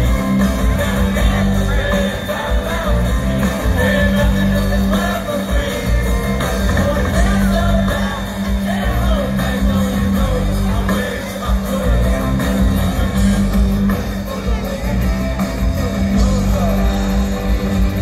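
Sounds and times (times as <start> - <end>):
person singing: 0.0 - 18.0
rock band playing live: 0.0 - 18.0.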